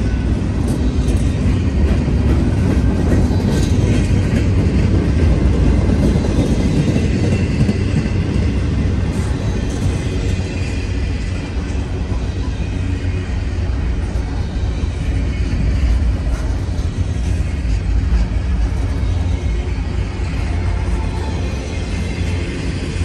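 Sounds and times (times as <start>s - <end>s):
freight train wheels rumbling on rail: 0.0s - 23.0s.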